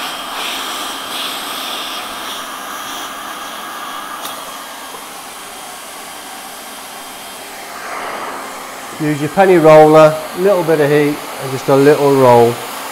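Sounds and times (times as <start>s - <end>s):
hot-air welding gun blowing: 0.0s - 12.9s.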